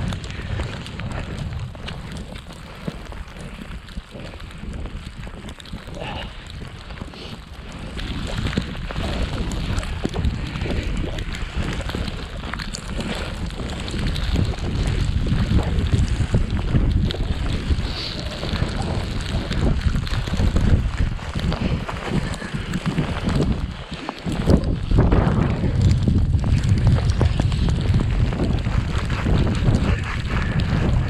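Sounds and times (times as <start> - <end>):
ticks and crackles: 0.0 - 31.0
wind buffeting microphone: 0.0 - 31.0.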